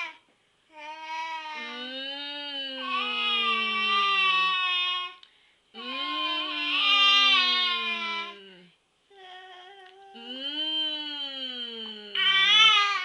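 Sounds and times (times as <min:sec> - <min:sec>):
voice holding long vowels: 0:01.6 - 0:05.2, 0:05.8 - 0:13.0.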